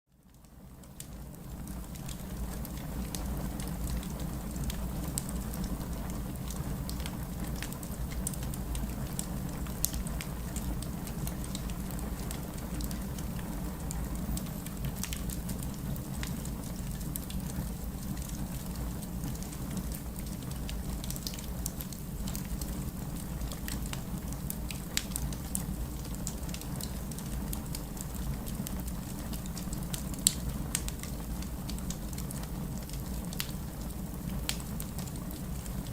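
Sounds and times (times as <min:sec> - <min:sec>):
burning logs crackling and popping: 0:00.3 - 0:35.9.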